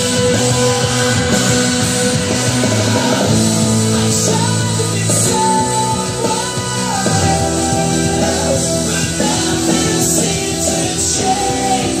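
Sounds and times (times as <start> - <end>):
rock song with singing: 0.0 - 12.0.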